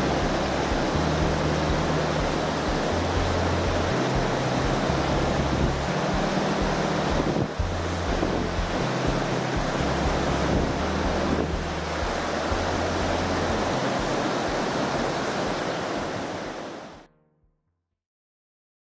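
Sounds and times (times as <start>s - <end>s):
wind buffeting microphone: 0.0s - 16.7s
river water rushing: 0.0s - 17.1s.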